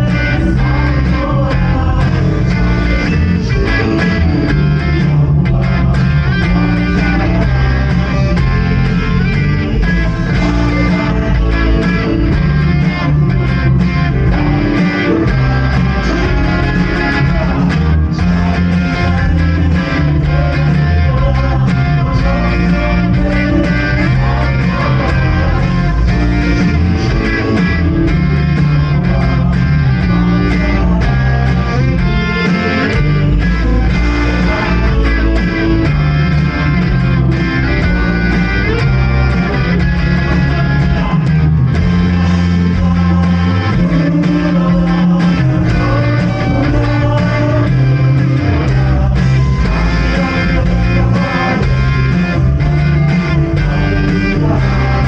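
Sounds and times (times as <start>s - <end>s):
worship band with guitars: 0.0s - 55.0s.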